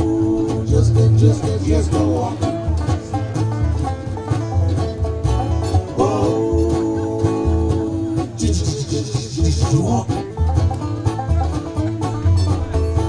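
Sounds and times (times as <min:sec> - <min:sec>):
banjo picking: 0:00.0 - 0:13.0
bluegrass band playing: 0:00.0 - 0:13.0
upright bass: 0:00.0 - 0:13.0.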